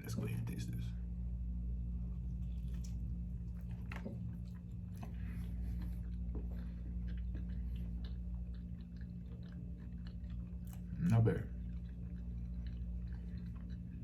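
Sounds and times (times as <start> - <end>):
steady low hum: 0.0 - 14.0
person chewing: 2.1 - 14.0.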